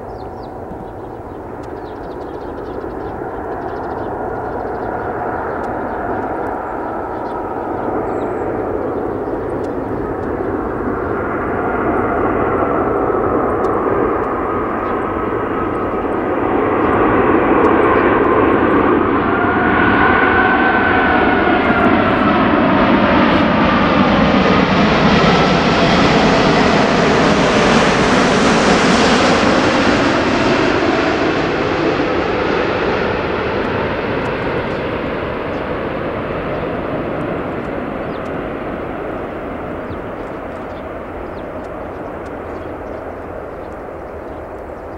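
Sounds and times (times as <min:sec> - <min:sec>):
jet airliner flying low past: 0:00.0 - 0:44.9
jet engine whine sliding down: 0:00.0 - 0:44.9.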